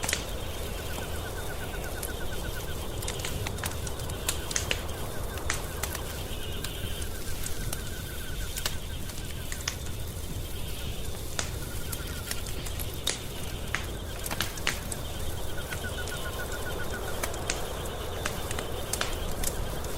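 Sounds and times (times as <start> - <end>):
faint chirping trill: 0.0 - 19.9
wood fire crackling: 0.0 - 19.9.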